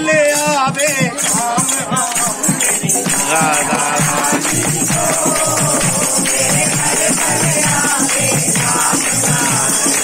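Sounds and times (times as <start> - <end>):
drum beat: 0.0 - 10.0
people singing: 0.0 - 10.0.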